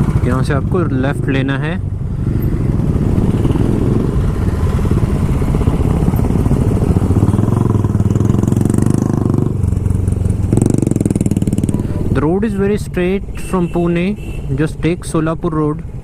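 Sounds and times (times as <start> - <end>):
motorcycle engine pulsing exhaust: 0.0 - 13.5.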